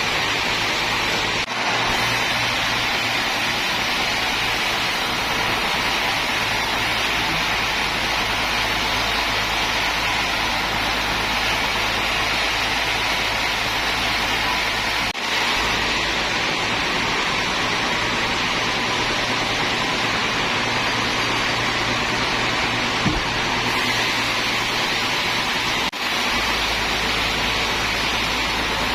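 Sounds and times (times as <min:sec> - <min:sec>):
sawmill machinery running: 0:00.0 - 0:28.9.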